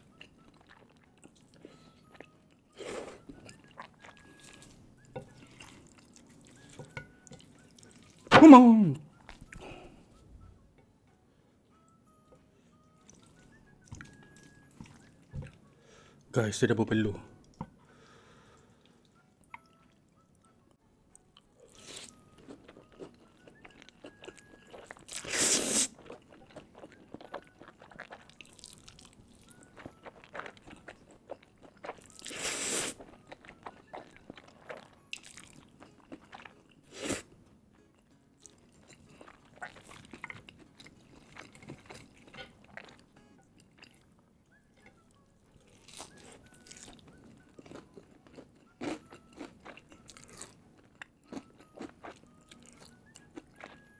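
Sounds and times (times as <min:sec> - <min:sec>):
crunching and chewing food: 0:00.0 - 0:08.3, 0:09.1 - 0:10.6, 0:12.3 - 0:16.3, 0:17.1 - 0:53.9.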